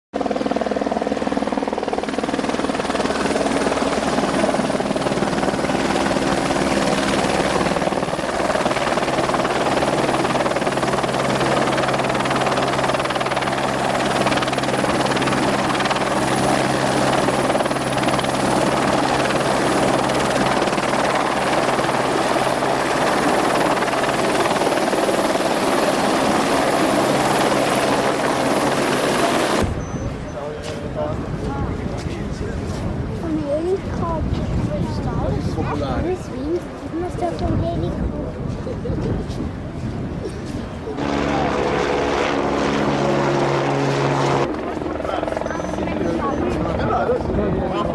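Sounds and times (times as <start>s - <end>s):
helicopter rotor and engine: 0.2s - 47.9s.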